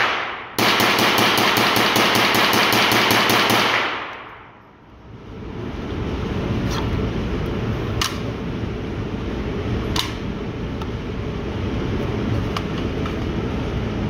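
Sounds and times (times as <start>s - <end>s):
ventilation rumble: 0.0s - 14.0s.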